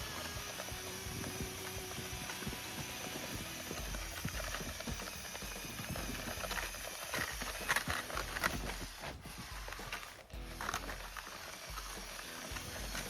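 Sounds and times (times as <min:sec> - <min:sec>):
plastic parts clicking and rattling: 0:00.0 - 0:13.0.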